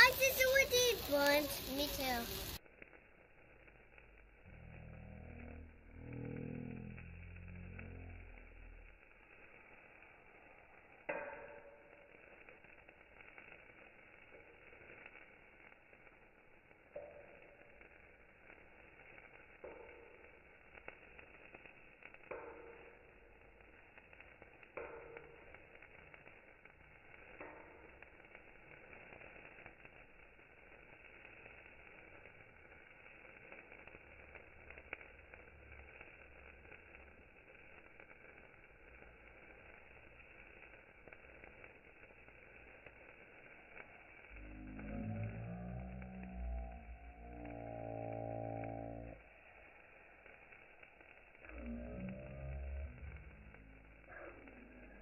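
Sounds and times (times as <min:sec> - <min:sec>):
sparkler fizzing and crackling: 0:00.0 - 0:55.0.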